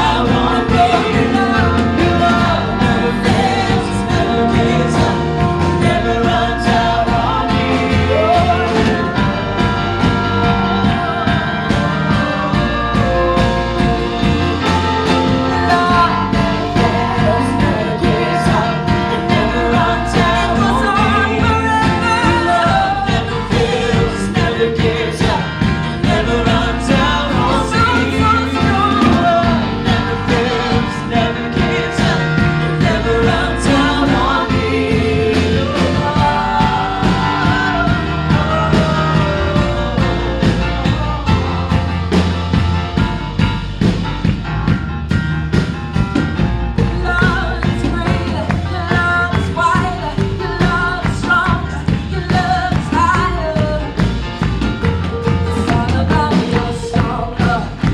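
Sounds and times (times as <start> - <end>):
person singing: 0.0 - 42.3, 46.8 - 54.1, 55.1 - 57.9
bass guitar: 0.0 - 57.9
drums: 0.0 - 57.9.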